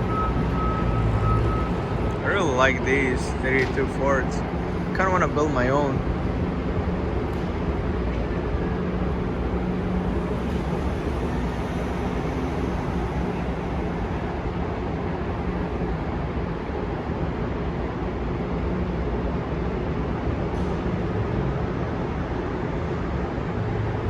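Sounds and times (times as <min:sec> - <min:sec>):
venue background rumble and hiss: 0:00.0 - 0:24.0.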